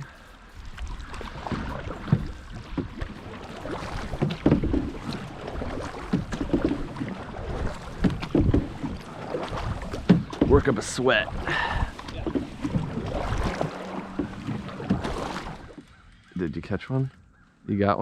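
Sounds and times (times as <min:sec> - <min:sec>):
paddles splashing in river water: 0:00.0 - 0:17.4
paddle knocks: 0:00.7 - 0:16.0.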